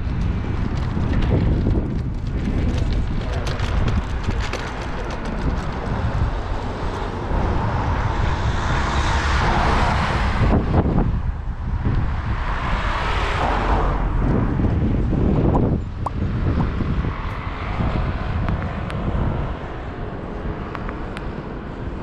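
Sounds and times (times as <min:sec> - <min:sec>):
cars passing: 0:00.0 - 0:22.0
wind buffeting microphone: 0:00.0 - 0:22.0.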